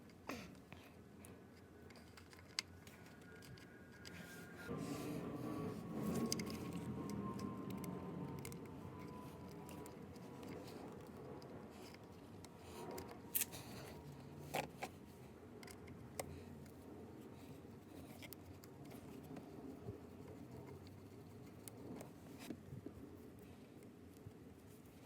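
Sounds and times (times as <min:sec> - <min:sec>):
light scraping and handling: 0:01.3 - 0:25.0.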